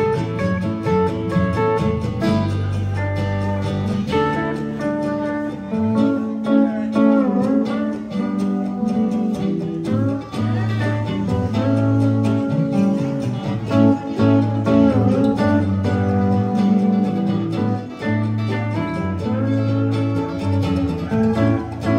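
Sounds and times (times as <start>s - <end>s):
drums: 0.0s - 21.9s
electric bass: 0.0s - 21.9s
mandolin: 0.0s - 21.9s
sliding steel guitar: 0.0s - 21.9s
strummed acoustic guitar: 0.0s - 21.9s.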